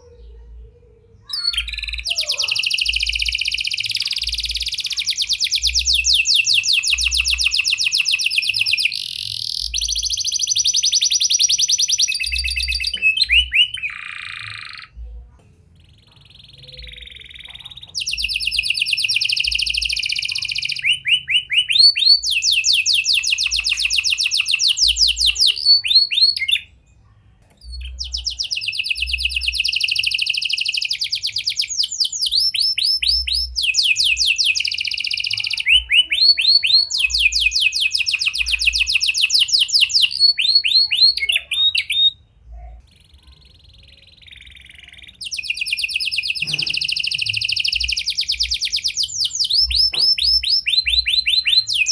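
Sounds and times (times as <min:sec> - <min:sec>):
canary singing trills: 0:00.0 - 0:51.9.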